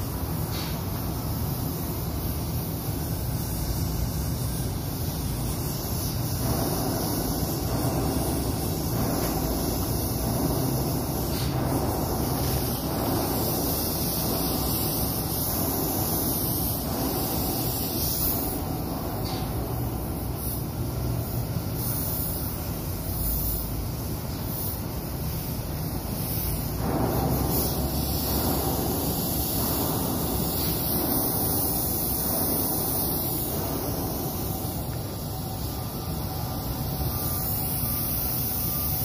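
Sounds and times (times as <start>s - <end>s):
spray gun hissing: 0.0s - 39.0s.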